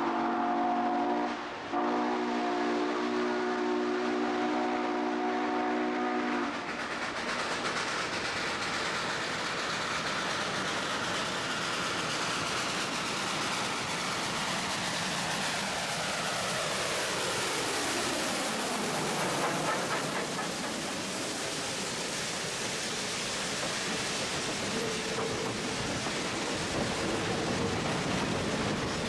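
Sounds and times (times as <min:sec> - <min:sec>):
steam locomotive exhaust rush: 0:00.0 - 0:29.0
passenger coaches rolling: 0:04.5 - 0:29.0.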